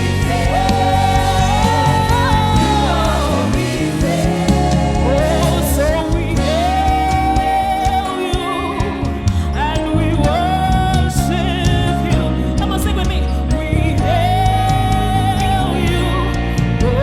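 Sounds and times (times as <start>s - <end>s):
band with keyboard bass and drums: 0.0s - 17.0s.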